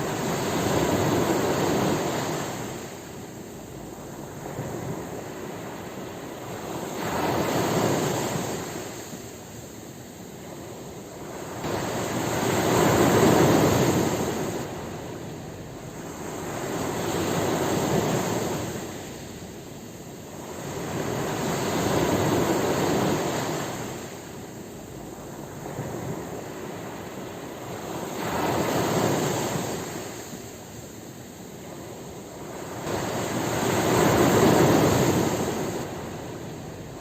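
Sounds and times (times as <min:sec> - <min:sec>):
ocean waves breaking on shore: 0:00.0 - 0:37.0.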